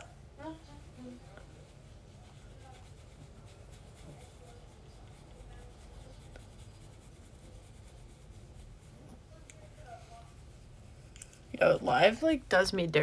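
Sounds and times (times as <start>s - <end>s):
low room hum: 0.0s - 13.0s
makeup rubbing on face: 0.0s - 13.0s.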